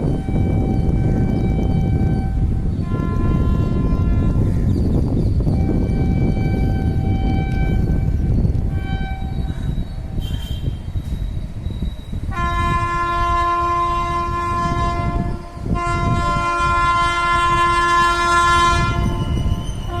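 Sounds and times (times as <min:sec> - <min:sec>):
locomotive twin-tone horn blasts: 0:00.0 - 0:04.6, 0:05.5 - 0:11.0, 0:12.3 - 0:20.0
train coaches rumbling on track: 0:00.0 - 0:20.0.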